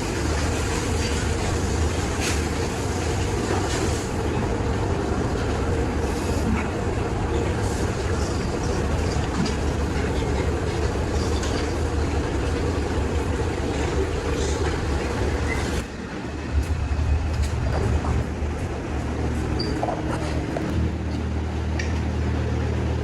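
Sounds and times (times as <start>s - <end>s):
mechanical rumble and rattle: 0.0s - 23.0s.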